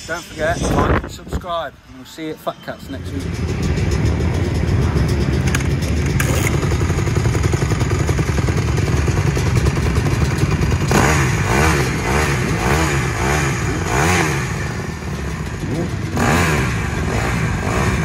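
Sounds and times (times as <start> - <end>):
dirt bike engine revving: 3.2 - 18.0.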